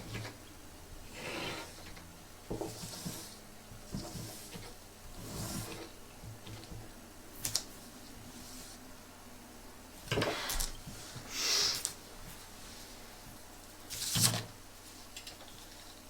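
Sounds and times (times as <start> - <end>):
rustling scraping handling noise: 0.0 - 6.9, 10.0 - 16.0.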